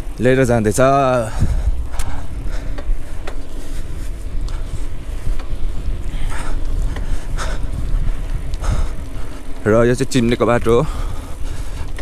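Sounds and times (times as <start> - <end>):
bike clicks and rattles: 0.0 - 12.0
tyre rumble on wet asphalt: 0.0 - 12.0
wind buffeting microphone: 0.0 - 12.0.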